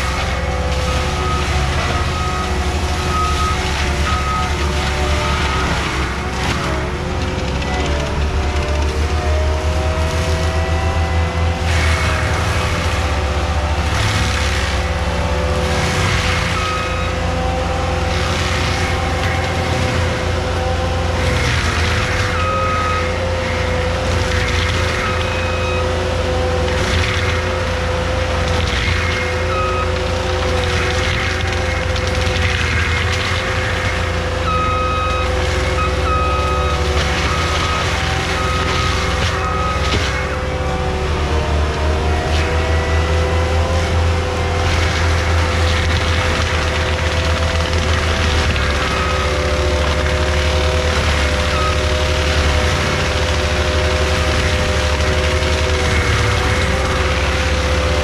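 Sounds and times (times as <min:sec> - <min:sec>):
diesel engine whining under load: 0:00.0 - 0:58.0
mulcher grinding brush: 0:00.0 - 0:58.0.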